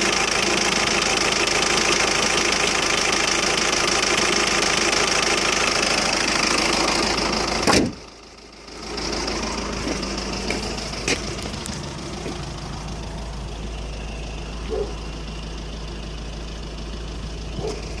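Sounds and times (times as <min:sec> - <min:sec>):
diesel engine idling roughly: 0:00.0 - 0:18.0.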